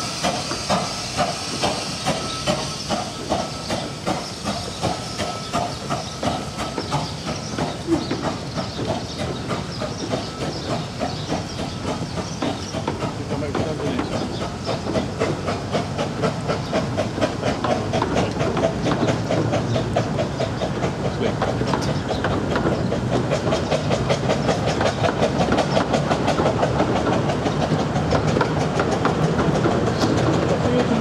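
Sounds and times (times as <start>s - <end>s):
train rumble: 0.0s - 31.0s
train wheels clicking over rail joints: 0.0s - 31.0s.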